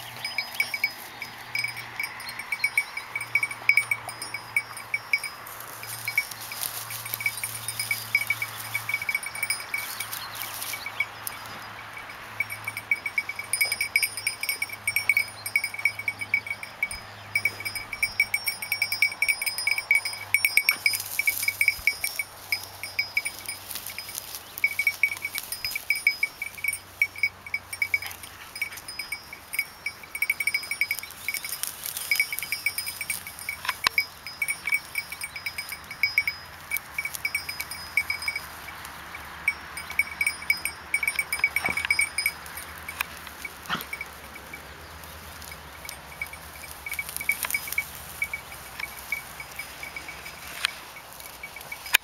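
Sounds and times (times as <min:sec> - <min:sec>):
small cowbell clinking: 0:00.0 - 0:52.0.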